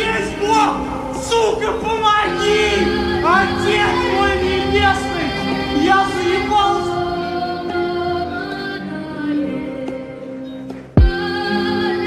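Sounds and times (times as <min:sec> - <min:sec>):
pop song: 0:00.0 - 0:12.0.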